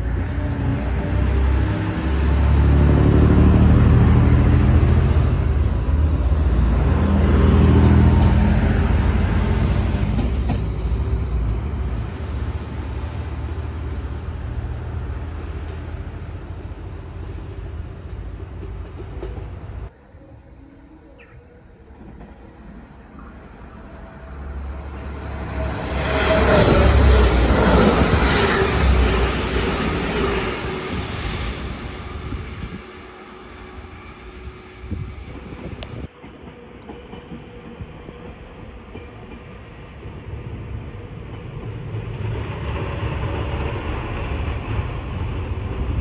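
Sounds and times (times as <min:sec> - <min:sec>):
diesel train engine hum: 0:00.0 - 0:46.0
train approaching: 0:00.0 - 0:46.0.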